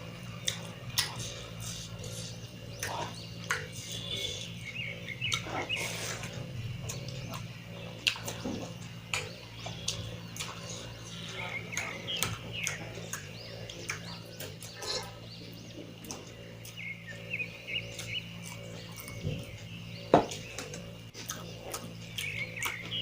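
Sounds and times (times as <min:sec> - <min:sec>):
steady low hum: 0:00.0 - 0:23.0
wet chewing and lip-smacking: 0:00.2 - 0:19.5, 0:20.3 - 0:23.0.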